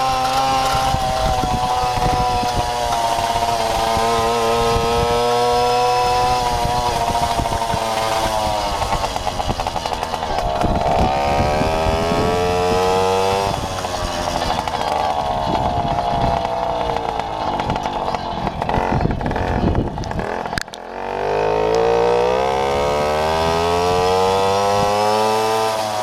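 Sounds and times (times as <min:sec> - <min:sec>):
moped two-stroke engine running: 0:00.0 - 0:26.0.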